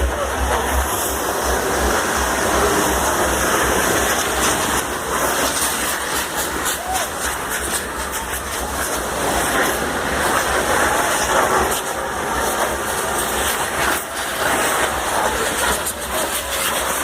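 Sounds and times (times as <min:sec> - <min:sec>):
fireworks crackles: 0:00.0 - 0:17.0
fireworks hissing: 0:00.0 - 0:17.0.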